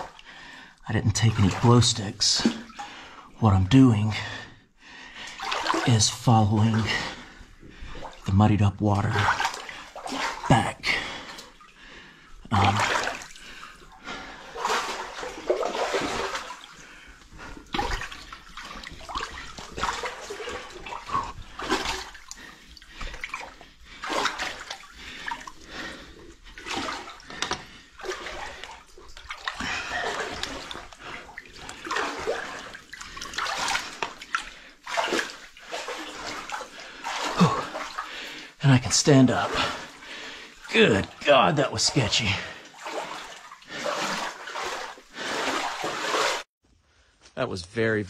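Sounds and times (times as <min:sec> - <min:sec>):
shallow water sloshing and splashing: 0:00.0 - 0:03.4, 0:04.1 - 0:46.5.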